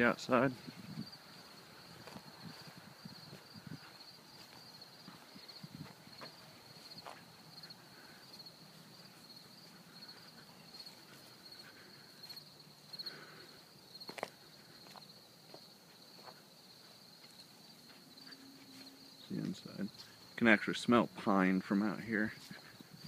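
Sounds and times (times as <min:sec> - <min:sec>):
crickets chirping: 0:00.0 - 0:23.0
footsteps: 0:00.0 - 0:23.0.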